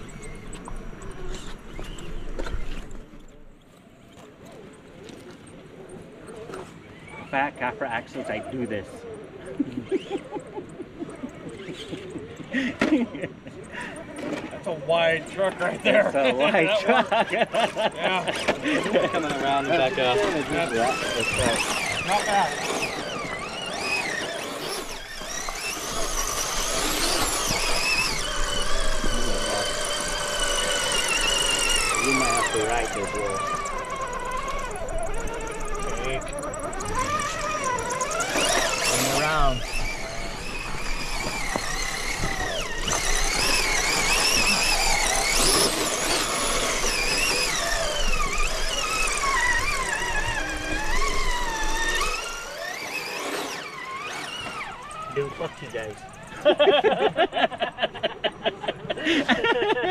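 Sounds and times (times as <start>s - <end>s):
electric motor and gears whining: 0.0s - 59.9s.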